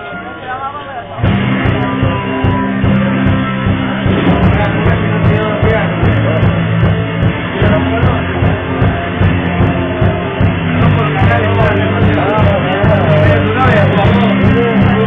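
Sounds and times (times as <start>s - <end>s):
live rock band: 1.2s - 15.0s.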